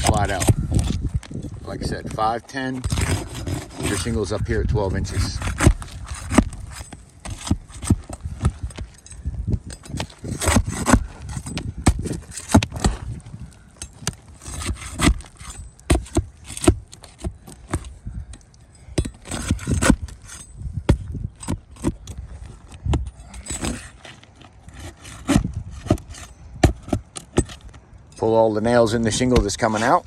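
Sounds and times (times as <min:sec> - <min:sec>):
hand tool scraping and clicking: 0:00.0 - 0:28.4.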